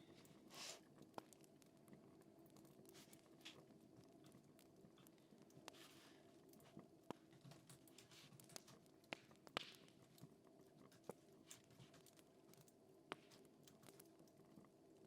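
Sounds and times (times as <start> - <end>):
crackling fire with pops: 0.0 - 15.0.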